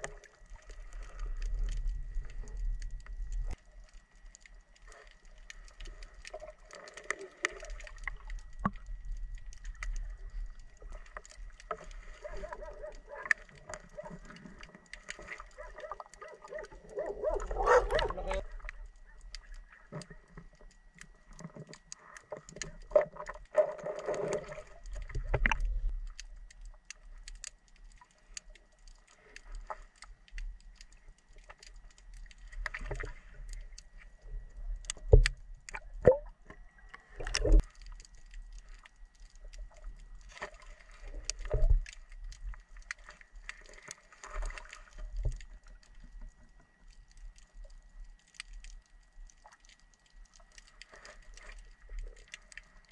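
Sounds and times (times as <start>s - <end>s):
underwater water sloshing: 0.0s - 52.9s.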